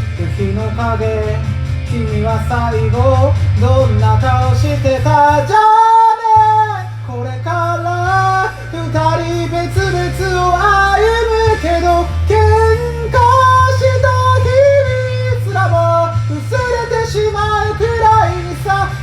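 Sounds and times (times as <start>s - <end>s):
karaoke backing track: 0.0s - 19.0s
person singing: 0.0s - 19.0s.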